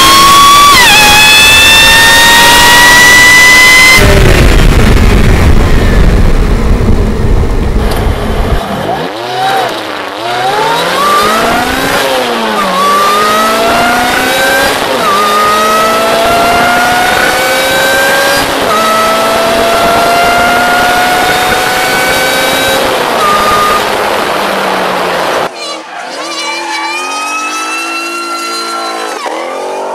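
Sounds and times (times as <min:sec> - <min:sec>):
supercharged car engine revving: 0:00.0 - 0:29.9.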